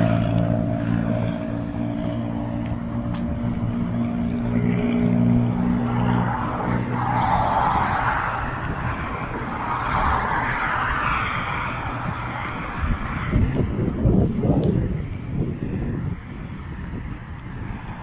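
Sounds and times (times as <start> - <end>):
low engine hum: 0.0 - 18.0
tyre noise of passing vehicles: 0.0 - 18.0.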